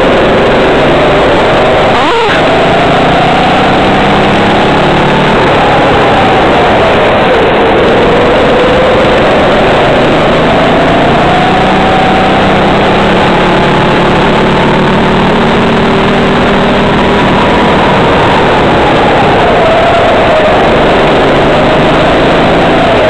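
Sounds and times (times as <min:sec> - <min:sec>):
kart engine accelerating: 0:00.0 - 0:23.0.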